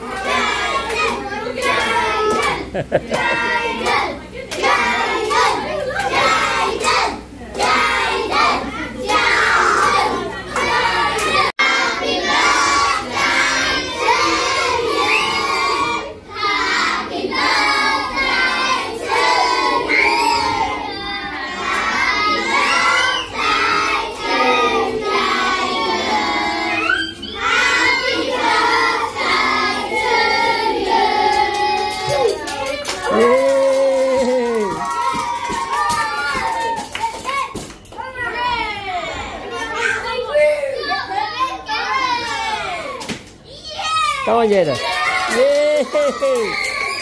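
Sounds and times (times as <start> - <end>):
children shouting and singing: 0.0 - 16.5, 17.3 - 47.0.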